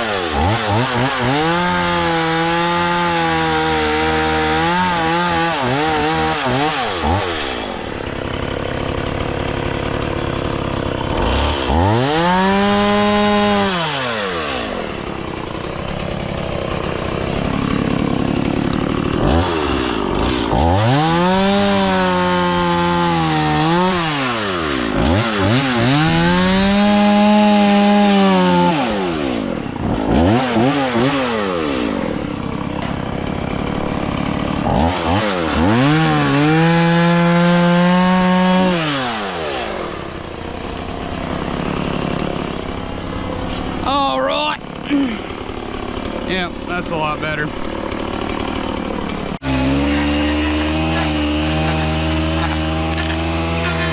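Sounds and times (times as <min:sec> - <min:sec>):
chainsaw idling: 0:00.0 - 0:53.9
chainsaw revving and cutting wood: 0:00.0 - 0:53.9.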